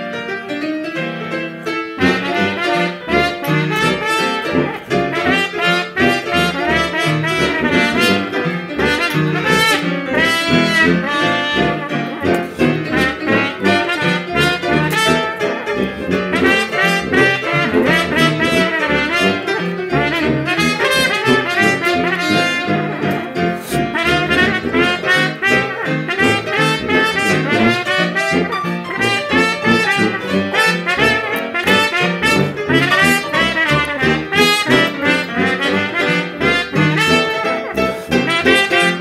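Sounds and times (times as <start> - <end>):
piano chords: 0.0 - 39.0
trumpet melody: 0.9 - 39.0
tuba bass line: 2.0 - 39.0.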